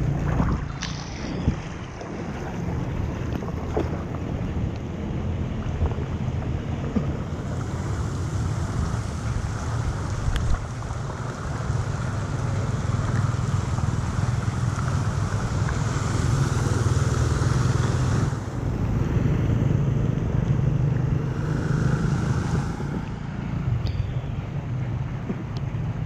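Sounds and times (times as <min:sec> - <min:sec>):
water rushing through drain: 0:00.0 - 0:23.8
wind buffeting microphone: 0:00.0 - 0:26.0.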